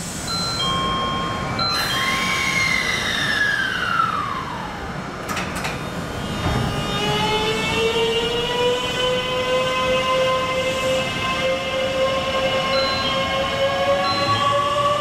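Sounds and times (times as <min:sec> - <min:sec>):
train inverter whining: 0:01.6 - 0:15.0.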